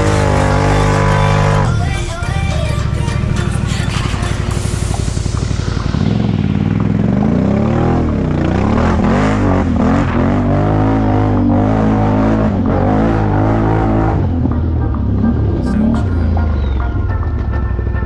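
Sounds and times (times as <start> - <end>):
atv engine revving: 0.0 - 17.9.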